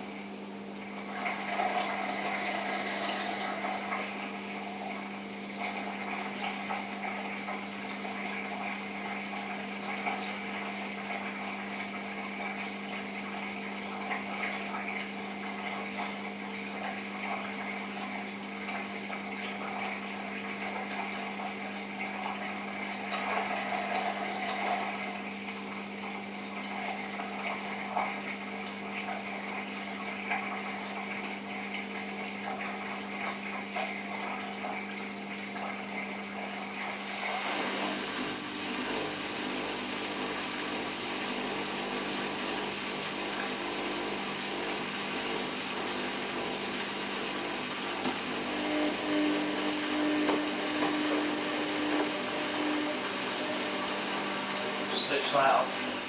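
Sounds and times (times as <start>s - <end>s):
deeper motor hum: 0.0s - 56.0s
drain pump humming: 0.0s - 56.0s
water gurgling: 0.0s - 56.0s.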